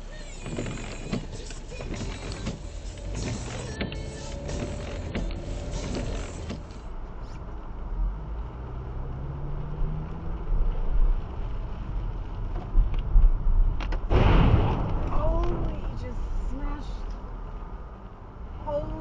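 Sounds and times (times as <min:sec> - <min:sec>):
car engine and road rumble: 0:00.0 - 0:19.0
low bumps: 0:00.4 - 0:19.0.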